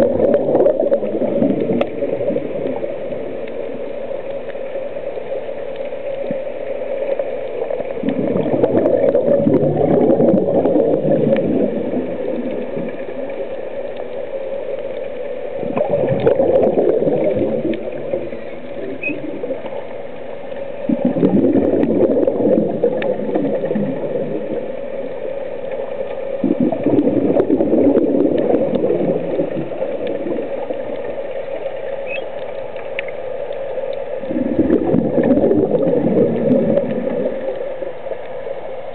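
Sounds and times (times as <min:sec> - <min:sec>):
underwater breath bubbles: 0:00.0 - 0:04.0, 0:07.2 - 0:13.5, 0:15.5 - 0:32.2, 0:34.0 - 0:38.9.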